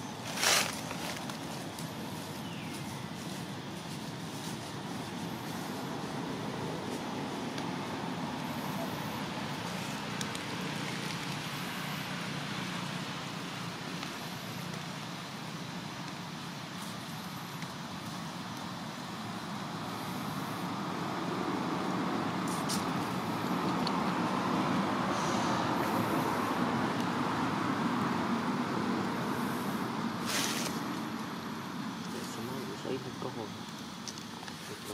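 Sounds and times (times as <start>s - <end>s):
road traffic rumble and hiss: 0.0s - 34.9s.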